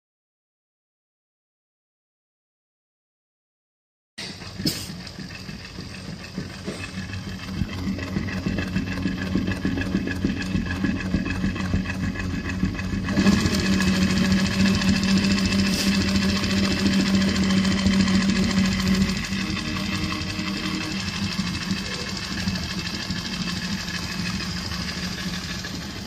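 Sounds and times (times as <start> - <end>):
sewing machine stitching: 4.2 - 26.0.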